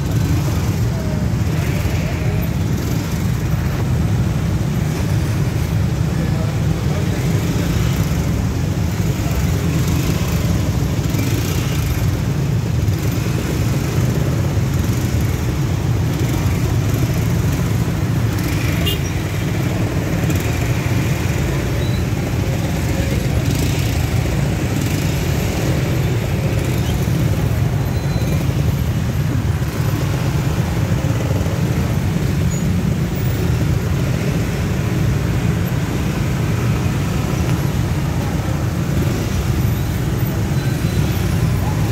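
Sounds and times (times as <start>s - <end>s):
traffic engine rumble: 0.0s - 41.9s.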